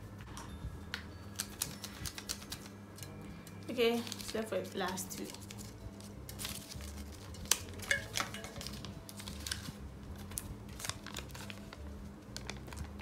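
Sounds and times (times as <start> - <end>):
paper crinkling and rustling: 1.4 - 2.7, 3.7 - 13.0.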